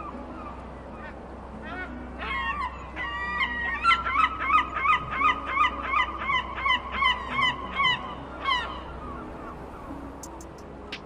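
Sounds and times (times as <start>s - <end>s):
seagull calling: 0.0s - 11.0s.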